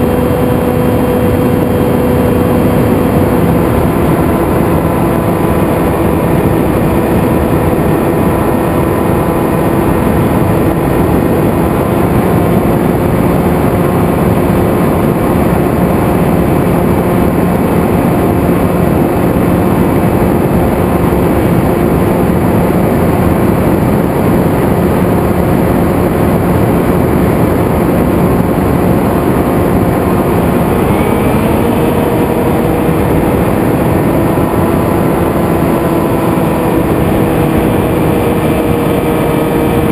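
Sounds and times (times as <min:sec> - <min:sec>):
electric motor propeller drone: 0:00.0 - 0:39.9
wind rushing over microphone: 0:00.0 - 0:39.9.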